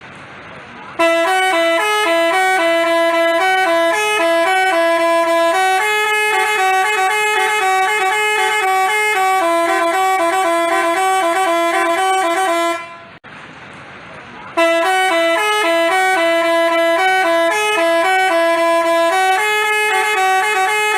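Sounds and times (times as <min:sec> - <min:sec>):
musical bus horn tune: 0:00.9 - 0:13.2, 0:14.6 - 0:20.9.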